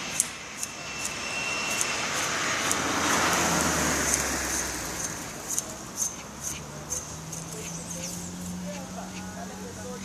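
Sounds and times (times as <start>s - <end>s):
passing vehicle: 0.0s - 10.0s
wren high ticks: 0.1s - 10.0s.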